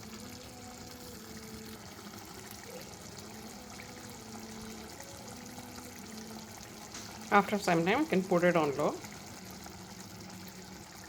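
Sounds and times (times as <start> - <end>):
curry bubbling in a pan: 0.0 - 11.0.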